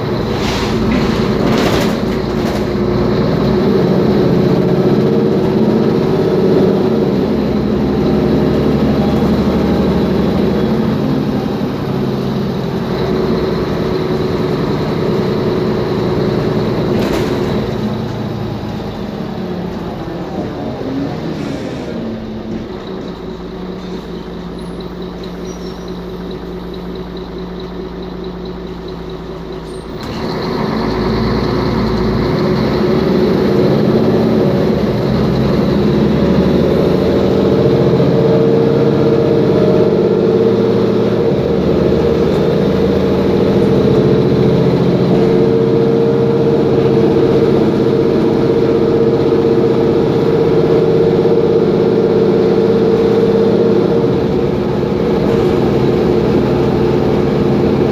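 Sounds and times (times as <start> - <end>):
bus diesel engine: 0.0 - 57.9.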